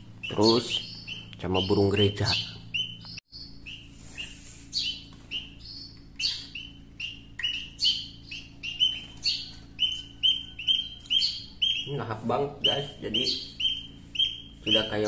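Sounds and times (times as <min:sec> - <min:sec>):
nestling birds begging calls: 0:00.0 - 0:15.0.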